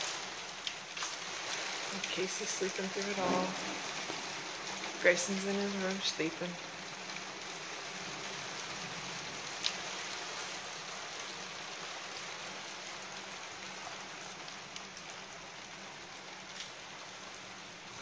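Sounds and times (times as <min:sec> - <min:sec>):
hailstones ticking: 0:00.0 - 0:18.0
rain hissing: 0:00.0 - 0:18.0.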